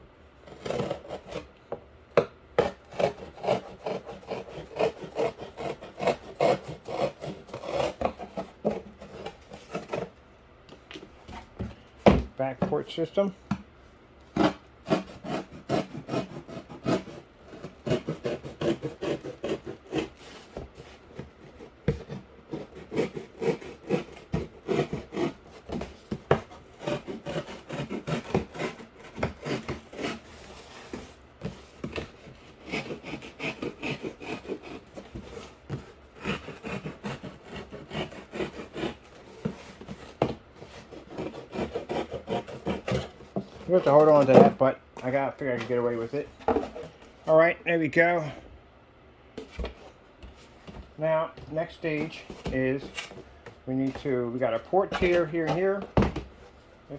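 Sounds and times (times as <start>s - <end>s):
knife cutting cardboard: 0.4s - 1.6s, 2.2s - 10.2s, 14.3s - 47.4s, 49.4s - 56.9s.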